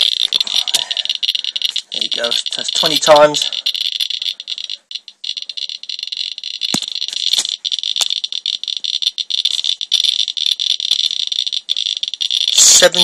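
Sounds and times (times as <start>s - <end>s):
geiger counter crackling: 0.0s - 13.0s.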